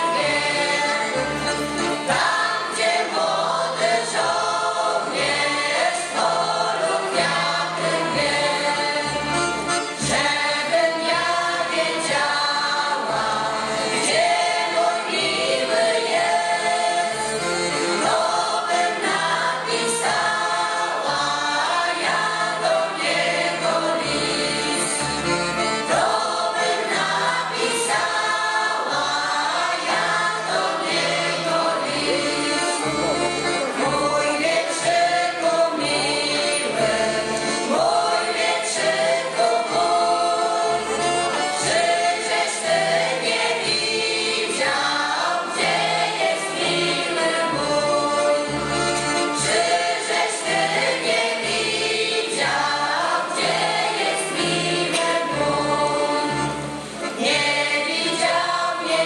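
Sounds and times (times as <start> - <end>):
accordion: 0.0 - 59.0
mixed choir singing folk song: 0.0 - 59.0.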